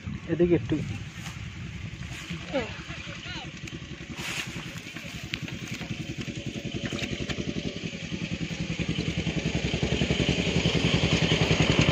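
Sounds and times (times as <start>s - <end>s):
small engine chugging: 0.0s - 11.9s.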